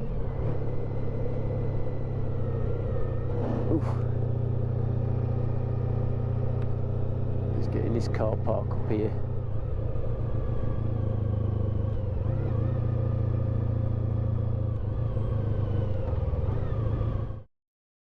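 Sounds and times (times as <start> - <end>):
motorcycle engine rumbling: 0.0 - 17.4.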